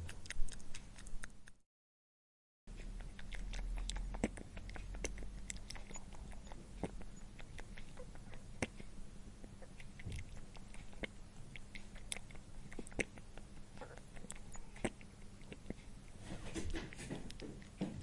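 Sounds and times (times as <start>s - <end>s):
animal chewing and crunching: 0.0s - 1.6s, 2.7s - 18.0s
low steady hum: 2.7s - 18.0s.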